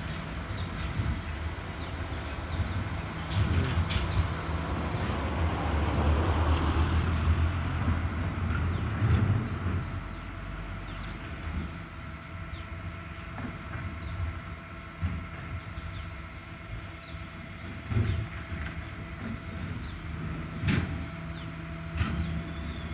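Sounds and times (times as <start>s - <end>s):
garbage truck engine running: 0.0s - 22.9s.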